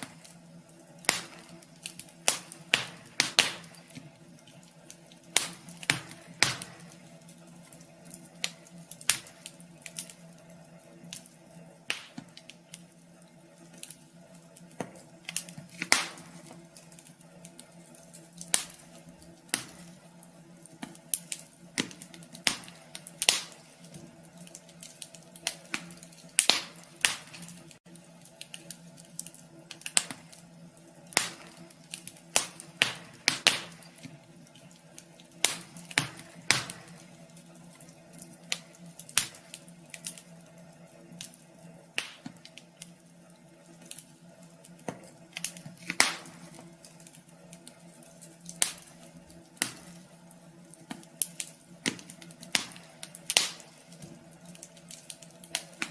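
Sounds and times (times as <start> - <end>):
faint steady hum: 0.0 - 55.9
wood fire crackling in stove: 0.0 - 55.9.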